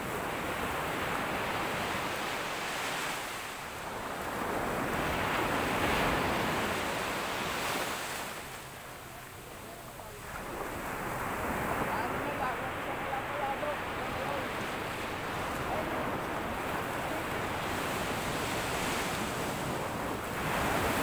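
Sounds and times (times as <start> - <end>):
surf breaking on sandy beach: 0.0 - 21.0.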